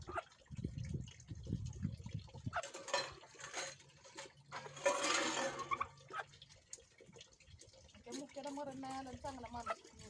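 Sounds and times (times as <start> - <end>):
water splashing and pouring: 0.0 - 10.0.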